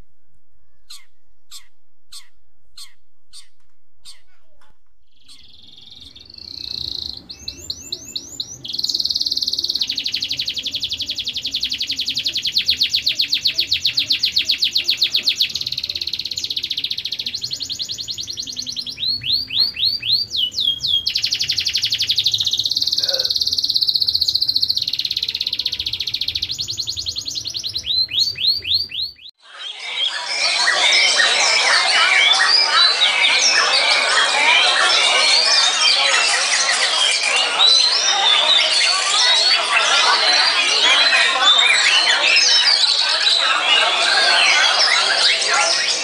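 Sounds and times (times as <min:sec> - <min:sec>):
canary singing: 0:05.1 - 0:46.0.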